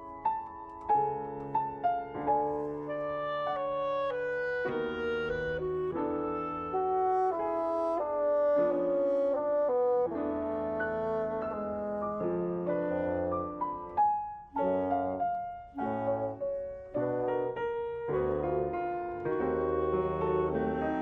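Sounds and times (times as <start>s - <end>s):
piano chords: 0.0s - 21.0s
clarinet and bassoon notes: 2.8s - 21.0s.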